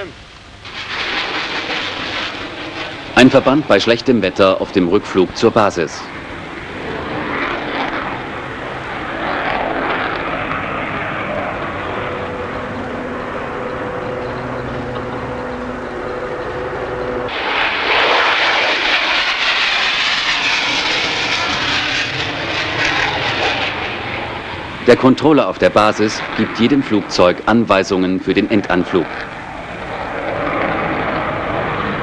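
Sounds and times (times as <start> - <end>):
jet noise: 0.0 - 32.0.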